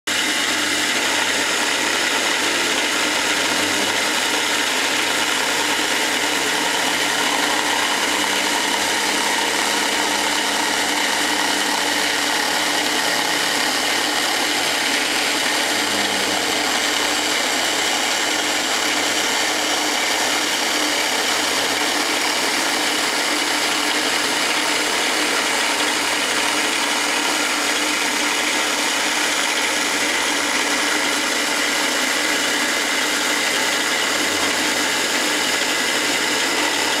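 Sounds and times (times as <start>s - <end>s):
mill spindle cutting metal: 0.1s - 37.0s.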